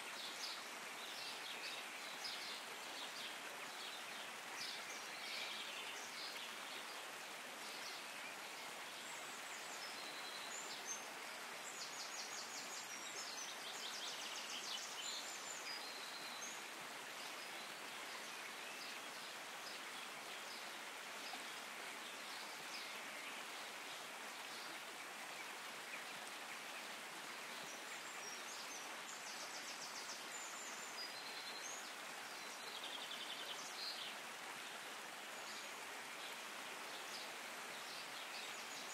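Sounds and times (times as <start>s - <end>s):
shallow stream running over rocks: 0.0s - 38.9s.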